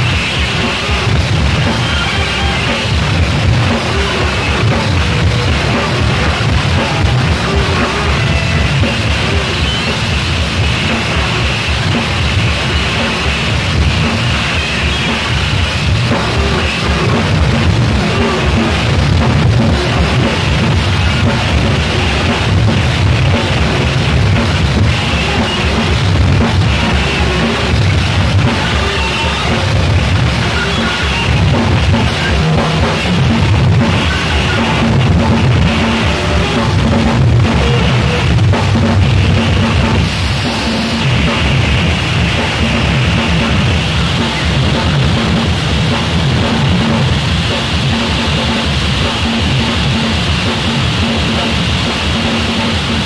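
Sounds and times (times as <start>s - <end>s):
drum kit playing: 0.0s - 53.0s
rock music: 0.0s - 53.0s.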